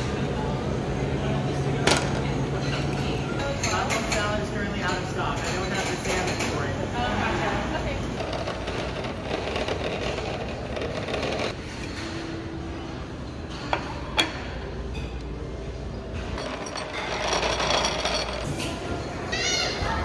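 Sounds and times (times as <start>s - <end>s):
cafeteria crowd din: 0.0s - 20.0s.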